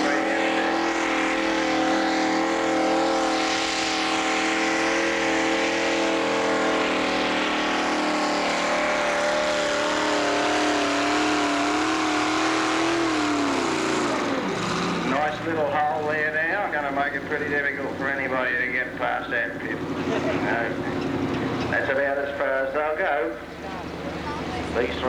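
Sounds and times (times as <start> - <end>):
tractor engine at high revs: 0.0 - 25.0.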